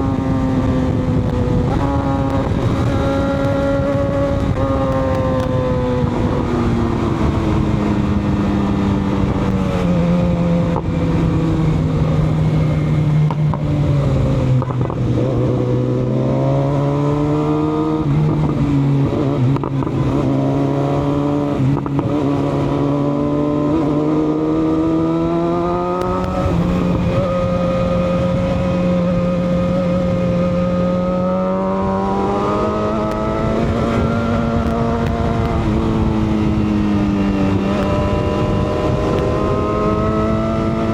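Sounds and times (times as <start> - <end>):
motorcycle engine running: 0.0 - 16.2, 17.2 - 40.9
wind noise: 0.0 - 40.9.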